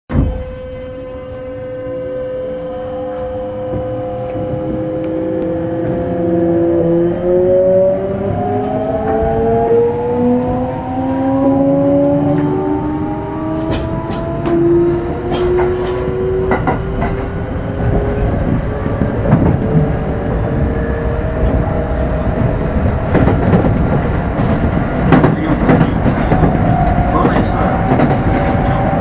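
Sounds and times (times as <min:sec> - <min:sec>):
train wheels rumbling: 0:00.1 - 0:29.0.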